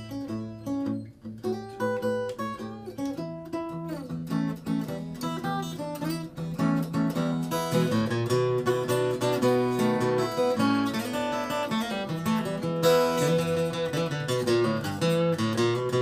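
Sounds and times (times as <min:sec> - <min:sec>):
fingerpicked acoustic guitar: 0:00.0 - 0:16.0.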